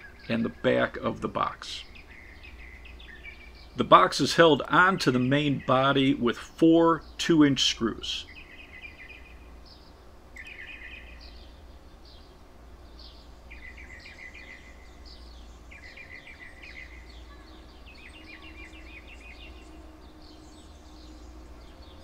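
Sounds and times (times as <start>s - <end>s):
low outdoor rumble: 0.0s - 22.0s
songbirds singing: 0.0s - 22.0s.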